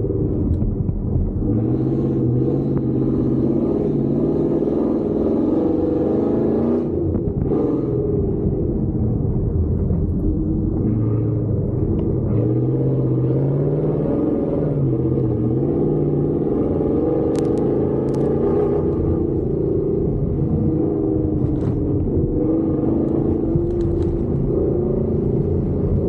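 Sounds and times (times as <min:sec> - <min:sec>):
truck engine revving: 0:01.1 - 0:08.3, 0:10.6 - 0:26.0.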